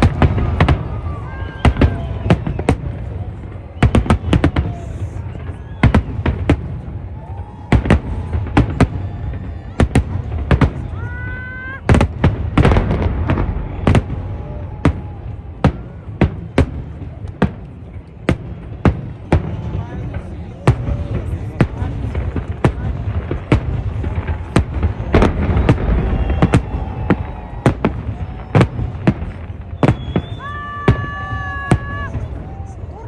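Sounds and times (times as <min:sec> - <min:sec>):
crackling fireworks bursts: 0:00.0 - 0:33.0
fireworks bangs: 0:00.0 - 0:33.0.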